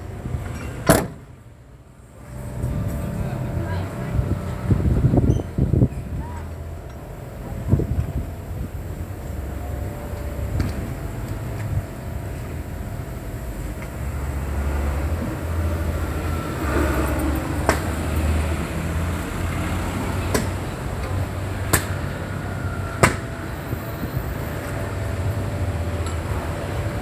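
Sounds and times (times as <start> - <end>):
diesel truck engine idling: 1.2 - 27.0.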